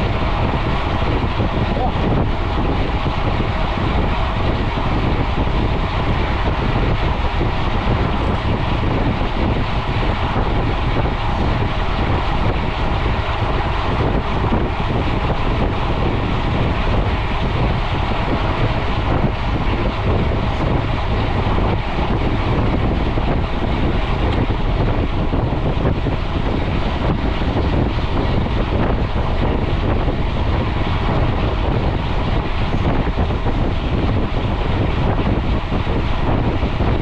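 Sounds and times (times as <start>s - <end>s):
bike tyres humming on road: 0.0s - 37.0s
wind rushing over microphone: 0.0s - 37.0s.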